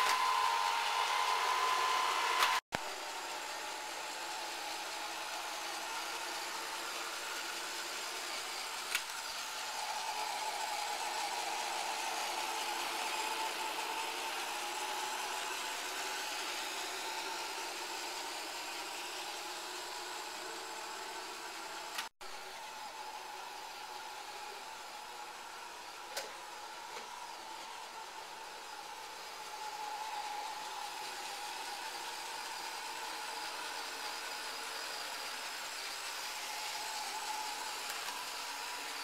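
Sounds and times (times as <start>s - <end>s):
robot vacuum whirring: 0.0s - 39.0s.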